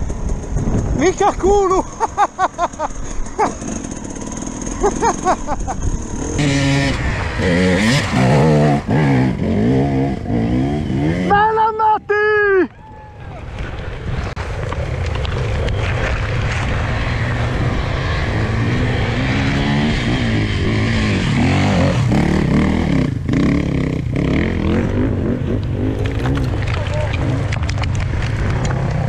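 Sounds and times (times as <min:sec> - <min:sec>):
off-road motorcycle engine revving: 0:00.0 - 0:11.6, 0:16.0 - 0:29.0.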